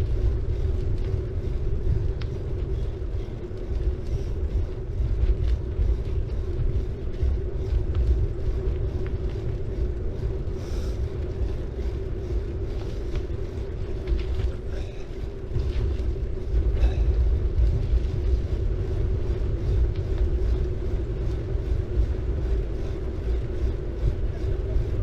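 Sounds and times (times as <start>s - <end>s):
bicycle tyres rolling on road: 0.0s - 25.0s
steady low hum: 0.0s - 25.0s
wind rumble on microphone: 0.0s - 25.0s.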